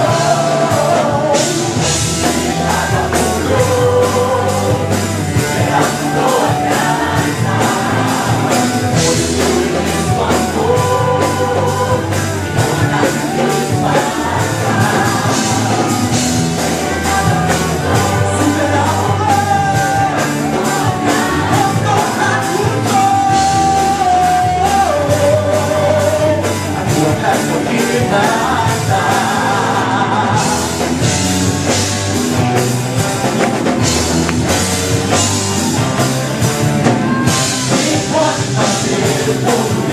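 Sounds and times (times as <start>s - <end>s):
bass: 0.0s - 39.9s
steady drum beat: 0.0s - 39.9s.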